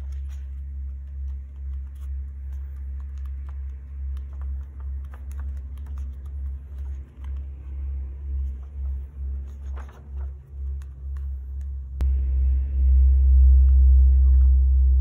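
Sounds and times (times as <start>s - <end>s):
paper clicks and taps: 0.0s - 12.0s
steady low hum: 0.0s - 15.0s.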